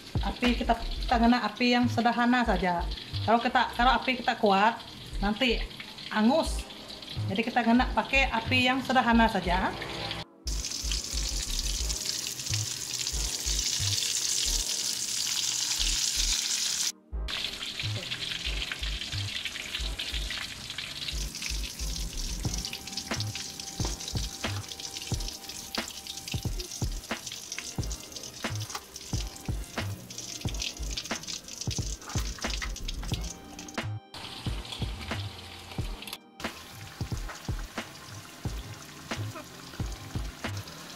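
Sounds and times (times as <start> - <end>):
meat deep-frying in hot oil: 0.0 - 8.5, 9.2 - 40.9.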